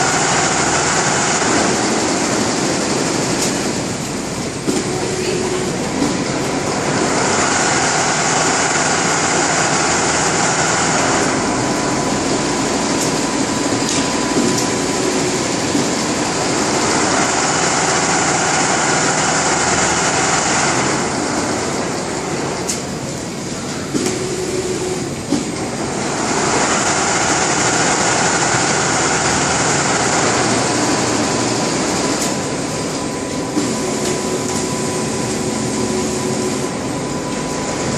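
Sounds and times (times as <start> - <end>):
sewing machine whirring: 0.0 - 22.8, 23.4 - 37.9.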